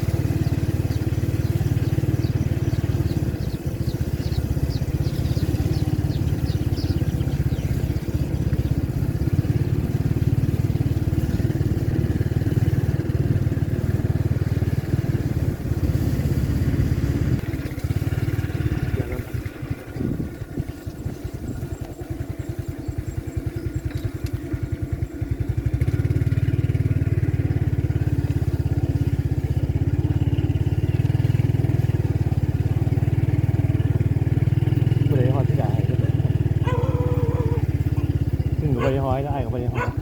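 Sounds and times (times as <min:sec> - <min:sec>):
small engine humming: 0:00.0 - 0:40.0.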